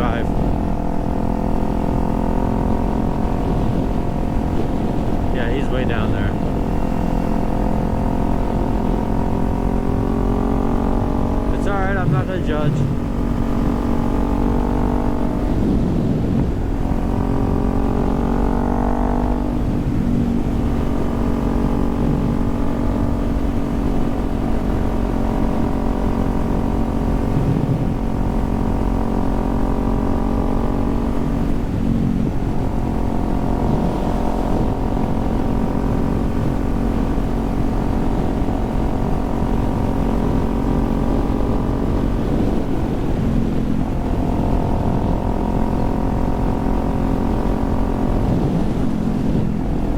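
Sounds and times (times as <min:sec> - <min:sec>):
wind noise: 0:00.0 - 0:25.8, 0:27.0 - 0:29.2, 0:30.8 - 0:49.9
motorcycle engine cruising: 0:00.0 - 0:49.9.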